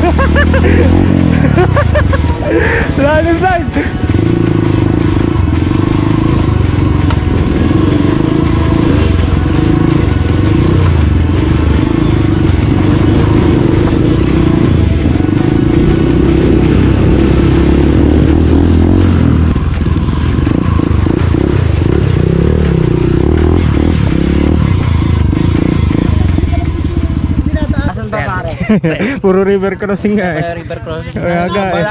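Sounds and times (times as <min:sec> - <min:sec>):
dirt bike engine running: 0:00.0 - 0:31.9.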